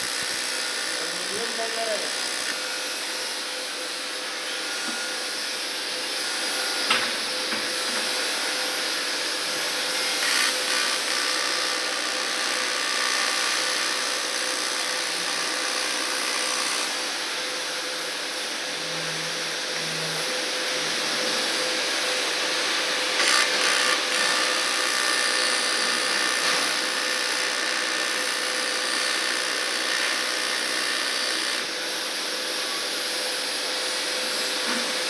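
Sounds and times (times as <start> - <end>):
welding hiss: 0.0 - 5.4, 6.0 - 35.0.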